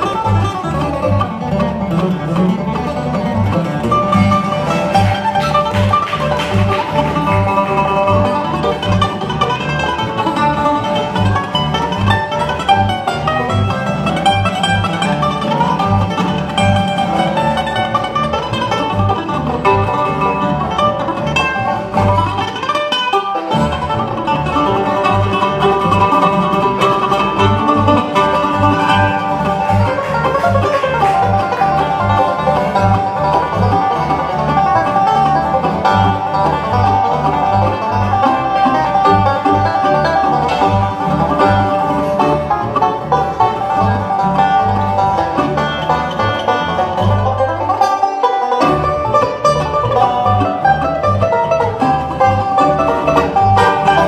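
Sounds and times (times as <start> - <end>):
acoustic guitar: 0.0 - 54.0
banjo: 0.0 - 54.0
mandolin: 0.0 - 54.0
upright bass: 0.0 - 54.0.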